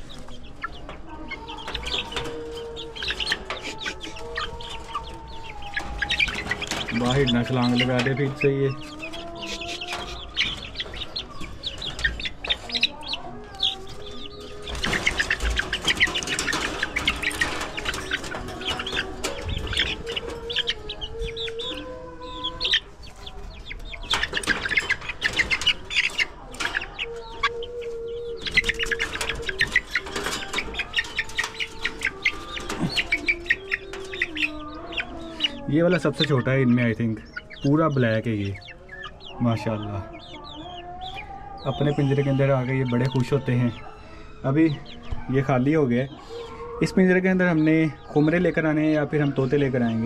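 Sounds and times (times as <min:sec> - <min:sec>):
chicks clucking and chirping: 0:00.0 - 0:50.0.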